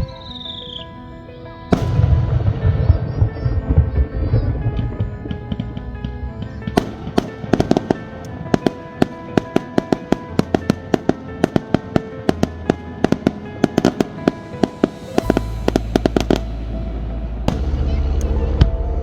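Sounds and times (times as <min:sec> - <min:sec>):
music playing: 0:00.0 - 0:19.0
fireworks bangs and cracks: 0:01.7 - 0:18.7.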